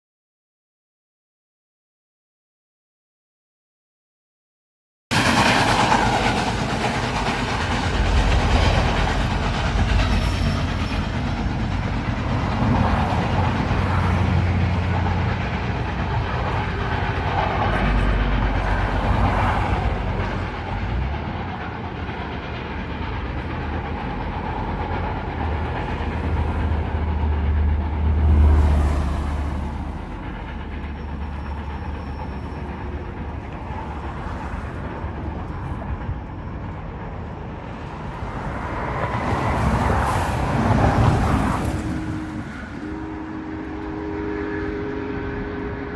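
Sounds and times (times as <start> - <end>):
train cars rumbling past: 5.1 - 45.9.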